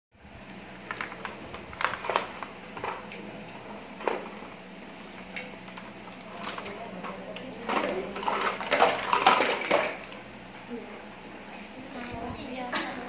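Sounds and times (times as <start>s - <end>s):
steady low hum: 0.2s - 13.0s.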